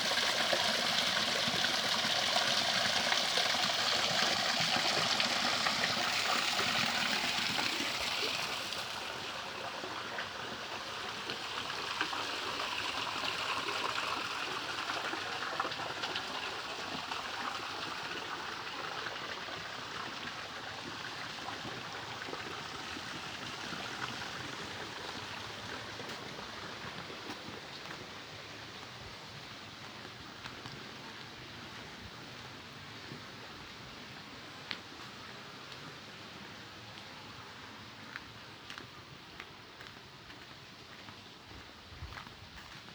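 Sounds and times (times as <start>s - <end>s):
water rushing in a stream: 0.0s - 42.9s.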